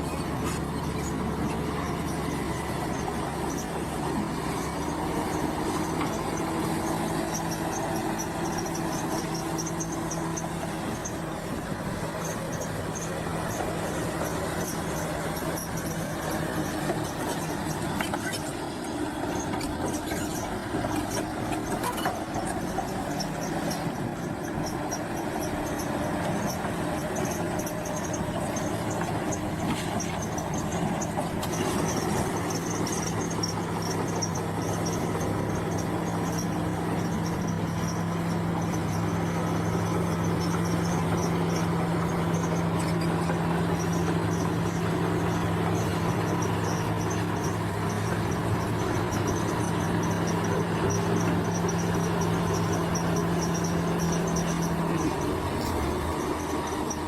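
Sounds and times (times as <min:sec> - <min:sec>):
bulldozer diesel engine running: 0:00.0 - 0:57.0
insects chirring: 0:00.1 - 0:57.0.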